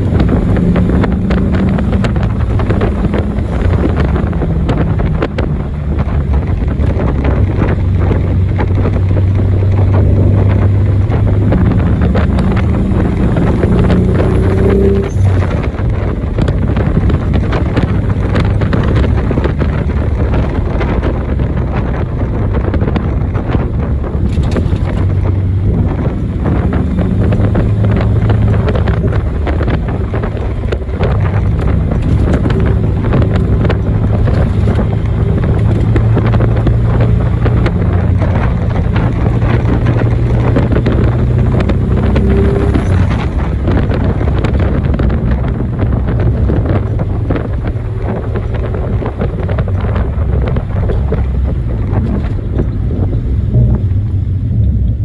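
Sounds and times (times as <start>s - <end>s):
car engine running: 0.0s - 55.0s
wind noise on microphone: 0.0s - 55.0s.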